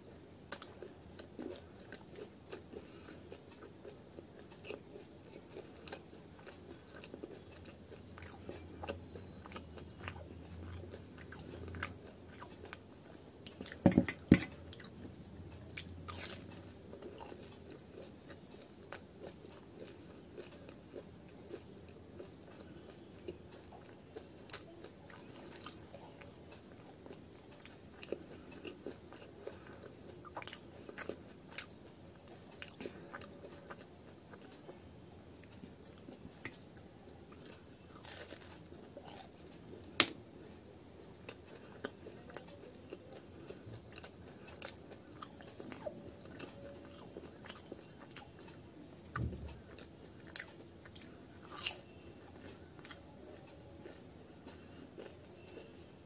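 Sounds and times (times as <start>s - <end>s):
person chewing crunchy food: 0.1s - 55.8s.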